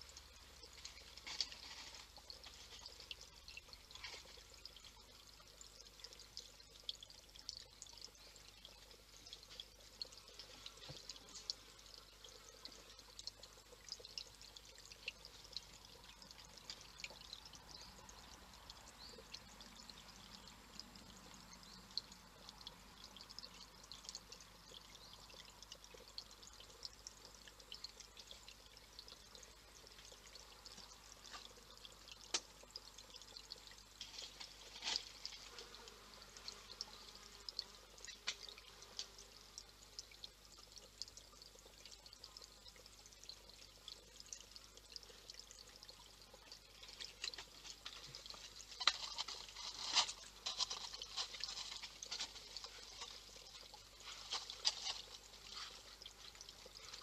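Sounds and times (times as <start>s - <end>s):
water drips: 0.0s - 57.0s
water trickling over stones: 0.0s - 57.0s.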